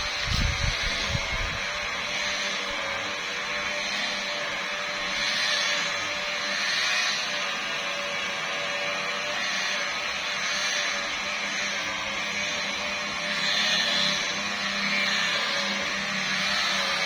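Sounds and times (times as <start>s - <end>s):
electric polisher whine: 0.0s - 17.0s.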